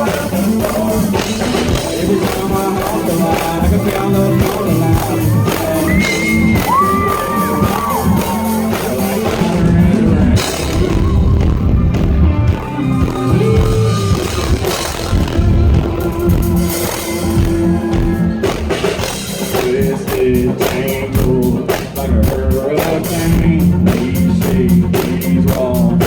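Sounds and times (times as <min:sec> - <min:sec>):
country rock band playing: 0:00.0 - 0:26.0
drum kit: 0:00.0 - 0:26.0
electric guitar: 0:00.0 - 0:26.0.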